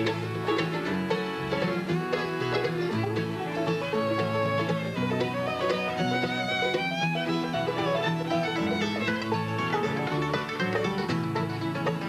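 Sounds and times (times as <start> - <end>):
banjo picking rolling notes: 0.0 - 12.0
strummed guitar: 0.0 - 12.0.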